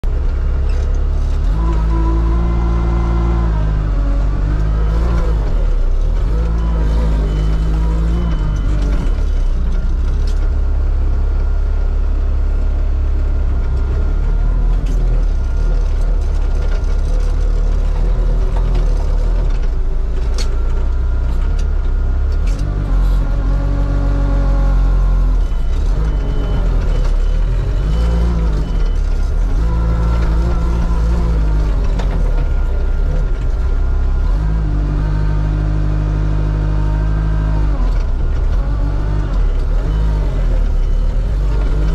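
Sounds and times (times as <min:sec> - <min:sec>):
wheel loader engine drone: 0:00.0 - 0:41.9.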